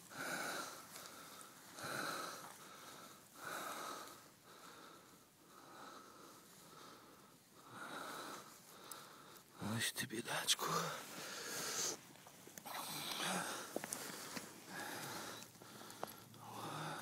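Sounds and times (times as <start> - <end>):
person breathing: 0.0 - 9.6, 10.7 - 17.0.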